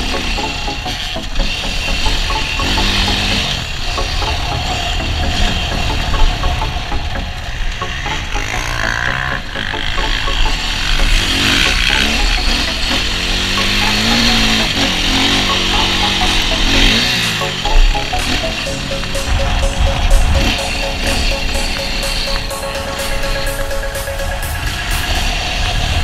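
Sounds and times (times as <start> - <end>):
dirt bike engine revving: 0.0 - 22.5.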